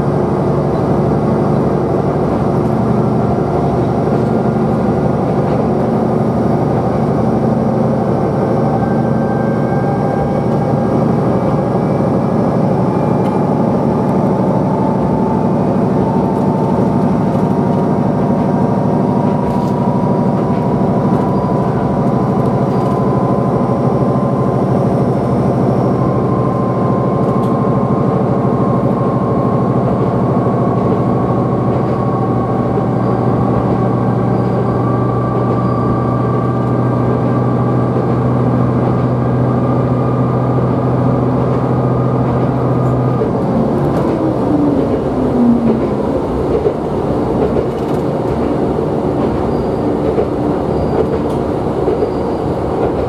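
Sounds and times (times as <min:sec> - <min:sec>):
railcar engine drone: 0:00.0 - 0:53.0
wheels rumbling on rails: 0:00.0 - 0:53.0.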